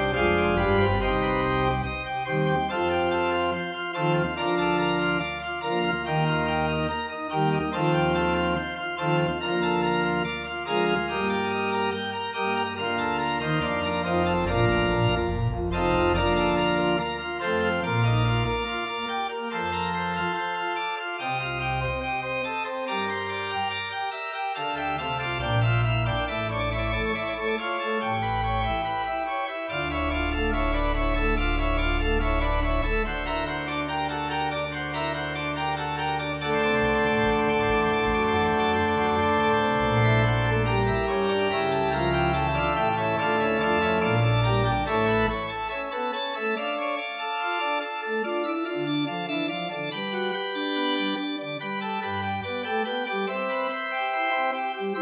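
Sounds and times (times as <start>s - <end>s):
organ music: 0.0s - 55.0s.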